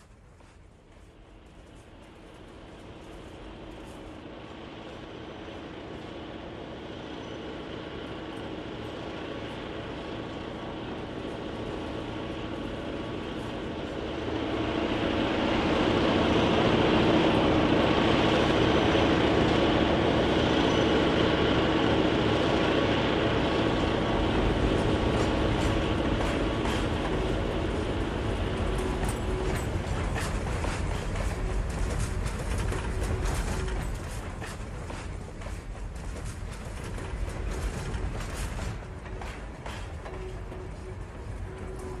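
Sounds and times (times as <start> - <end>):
model train rumbling on track: 0.0 - 42.0.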